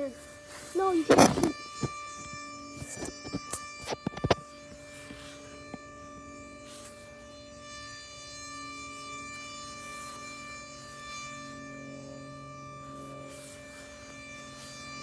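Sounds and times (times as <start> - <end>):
warning siren steady tone: 0.0 - 15.0.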